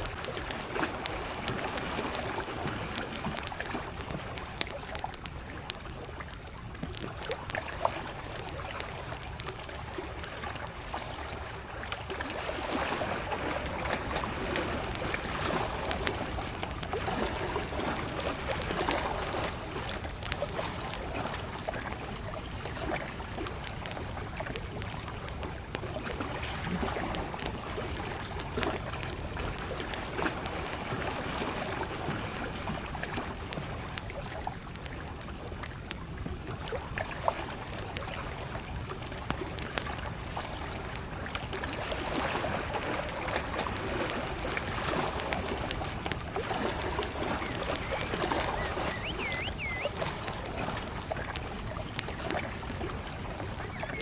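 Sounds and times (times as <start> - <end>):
campfire crackling and popping: 0.0 - 54.0
lake waves lapping: 0.0 - 54.0.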